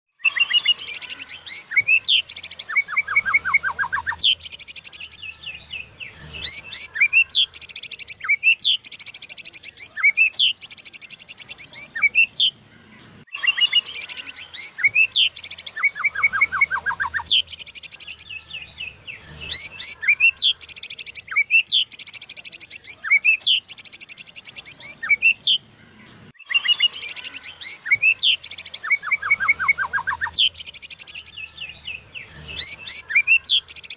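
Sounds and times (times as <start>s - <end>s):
songbird singing trills and whistles: 0.1s - 12.6s, 13.2s - 25.7s, 26.3s - 33.9s.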